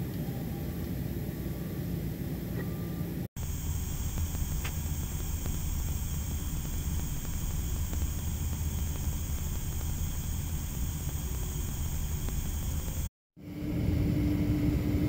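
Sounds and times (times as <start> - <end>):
airliner cabin hum and hiss: 0.0 - 15.0.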